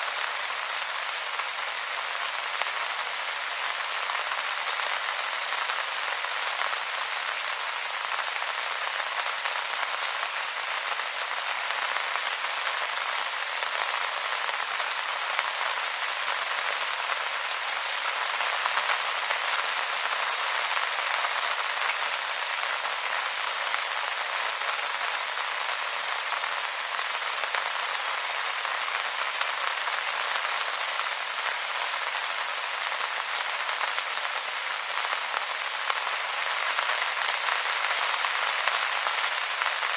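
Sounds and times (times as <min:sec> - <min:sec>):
rain on wet leaves: 0:00.0 - 0:39.9.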